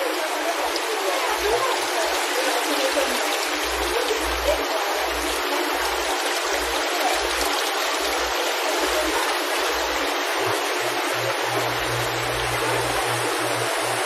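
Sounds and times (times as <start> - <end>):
water rushing and splashing into tanks: 0.0 - 14.0.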